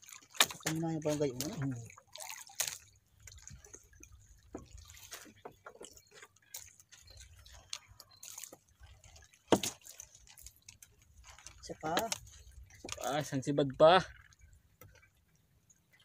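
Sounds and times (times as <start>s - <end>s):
water dripping: 0.0s - 16.0s.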